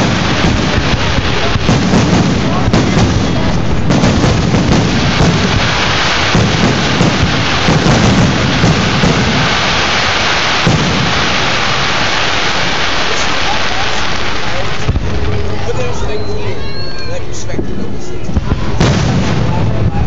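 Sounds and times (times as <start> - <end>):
fireworks bursting and crackling: 0.0 - 20.0.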